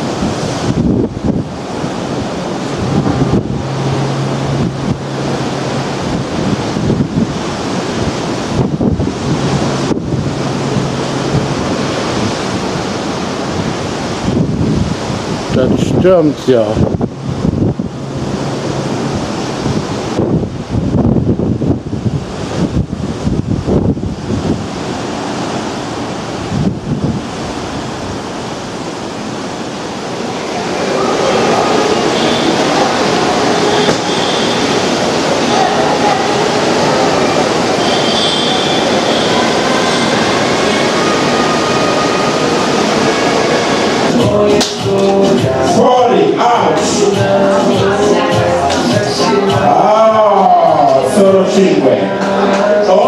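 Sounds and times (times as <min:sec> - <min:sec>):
wind buffeting microphone: 0:00.0 - 0:45.7
ship wake and rough sea: 0:00.0 - 0:53.0.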